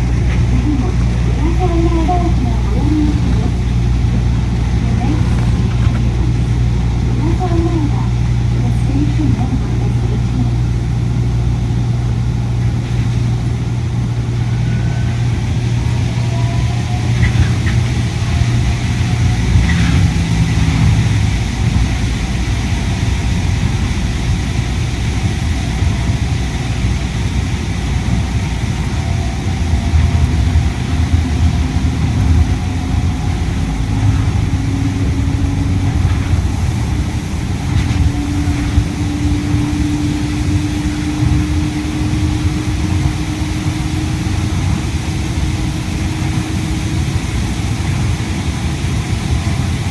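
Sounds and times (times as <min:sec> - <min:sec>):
air-conditioning noise: 0:00.0 - 0:49.9
monorail running hum: 0:00.0 - 0:49.9
train drive tone rising: 0:00.0 - 0:49.9.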